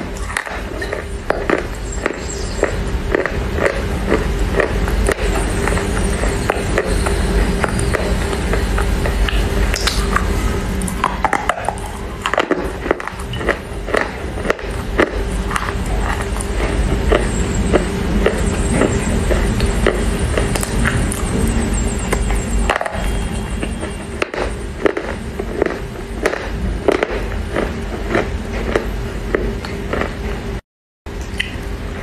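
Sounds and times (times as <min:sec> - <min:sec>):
crunchy chewing of clay: 0:00.0 - 0:30.6
low hum: 0:00.0 - 0:32.0.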